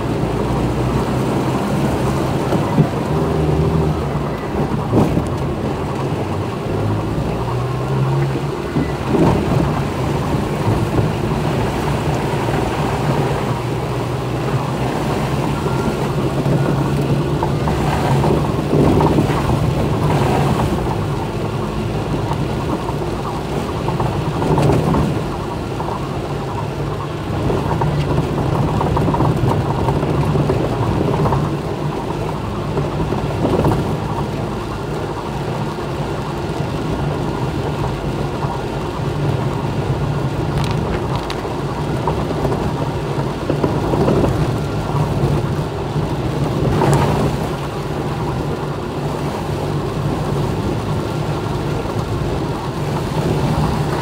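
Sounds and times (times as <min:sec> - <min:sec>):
car moving on wet road: 0:00.0 - 0:54.0
heavy rain drumming on car roof: 0:00.0 - 0:54.0.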